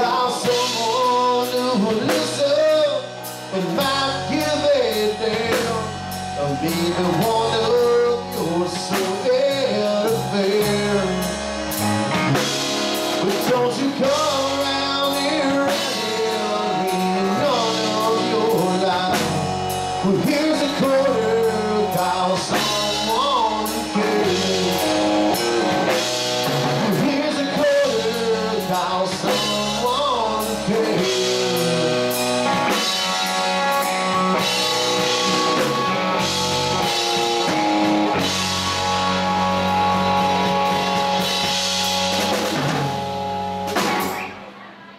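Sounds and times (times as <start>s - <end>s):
man singing: 0.0s - 40.8s
bass guitar: 0.0s - 44.9s
drum kit: 0.0s - 44.9s
electric guitar: 0.0s - 44.9s.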